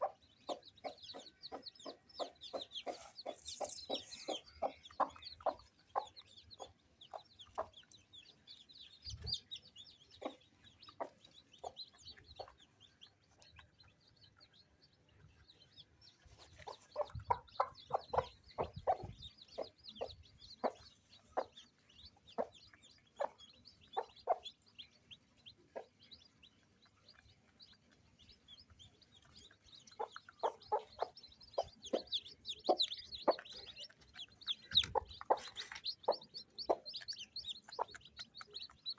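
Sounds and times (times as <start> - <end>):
hen clucking: 0.0 - 14.6, 15.7 - 38.9
chicks peeping: 0.0 - 38.9.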